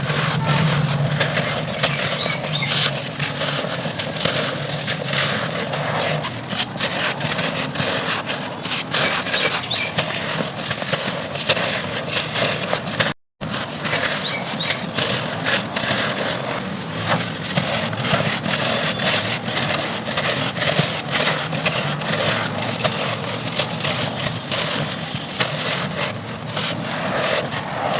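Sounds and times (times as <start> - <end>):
dry dirt crumbling and crunching: 0.0 - 27.8.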